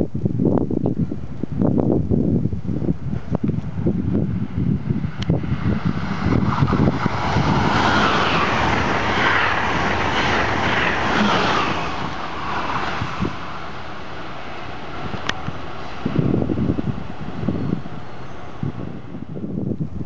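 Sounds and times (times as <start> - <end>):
wind buffeting microphone: 0.0 - 20.0
high-speed train passing: 2.5 - 20.0.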